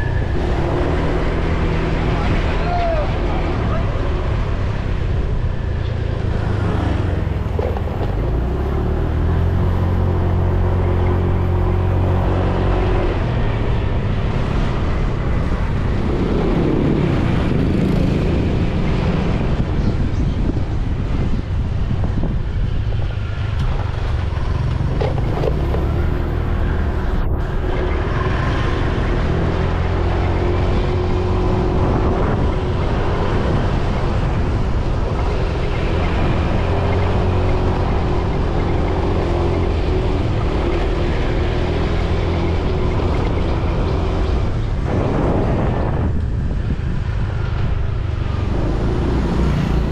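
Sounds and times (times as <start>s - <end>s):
wind on microphone: 0.0s - 49.9s.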